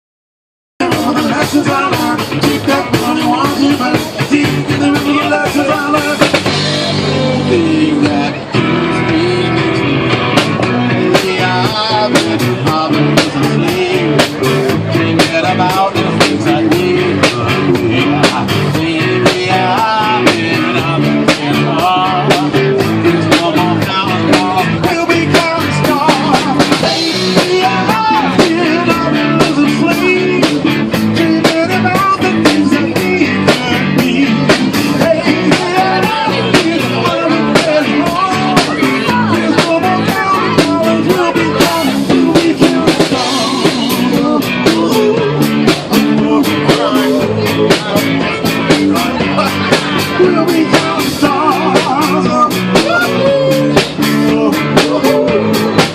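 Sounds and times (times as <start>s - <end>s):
drum kit beat: 0.8s - 55.9s
electric guitar: 0.8s - 55.9s
loud rock music: 0.8s - 55.9s
person singing: 0.8s - 55.9s.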